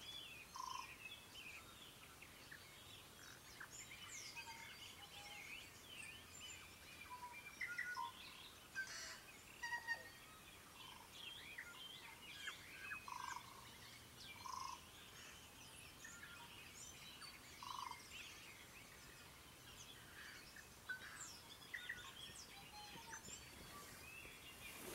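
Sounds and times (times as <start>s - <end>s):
birds chirping and singing: 0.0s - 24.9s.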